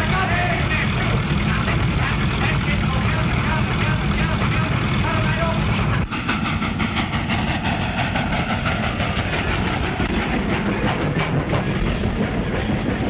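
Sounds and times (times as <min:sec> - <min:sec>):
train running at speed: 0:00.0 - 0:13.0.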